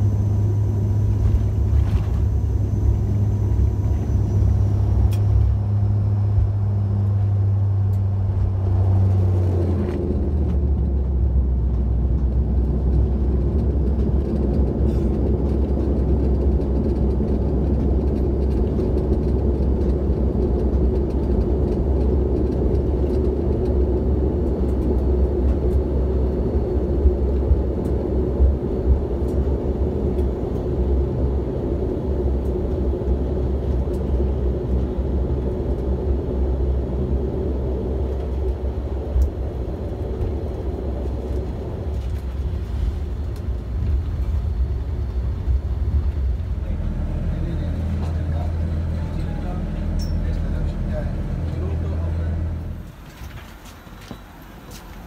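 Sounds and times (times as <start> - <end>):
turboprop engine drone: 0.0 - 55.0.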